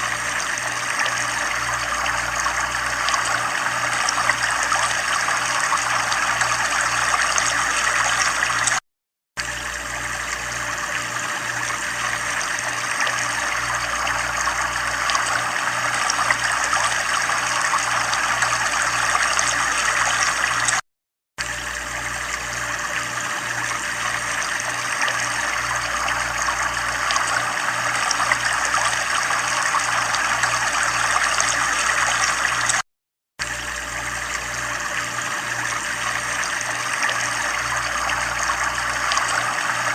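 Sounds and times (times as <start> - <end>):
low pulsing hum: 0.0 - 8.8, 9.4 - 20.8, 21.4 - 32.8, 33.4 - 39.9
water trickling: 0.0 - 8.8, 9.4 - 20.8, 21.4 - 32.8, 33.4 - 39.9.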